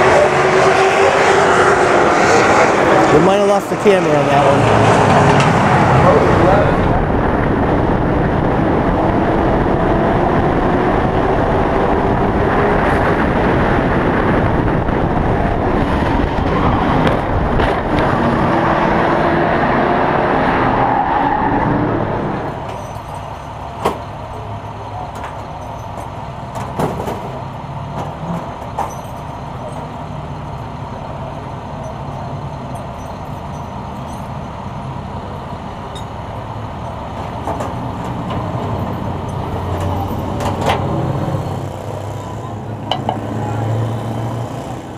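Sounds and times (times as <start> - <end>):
truck engine running hard: 0.0 - 44.9.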